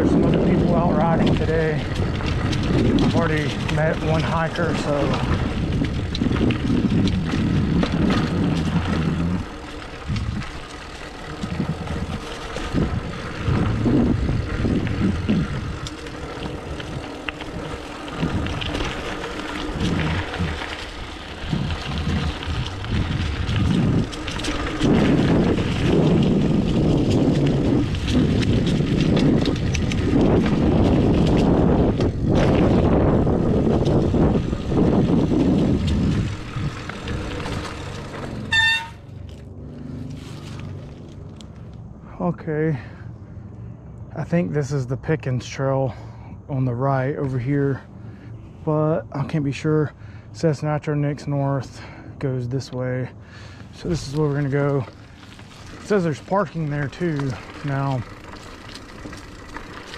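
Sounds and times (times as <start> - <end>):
bike clicks and rattles: 0.0 - 41.9, 52.6 - 59.9
wind buffeting microphone: 0.0 - 44.8, 53.1 - 59.9
bike tyres rumbling: 0.0 - 59.9.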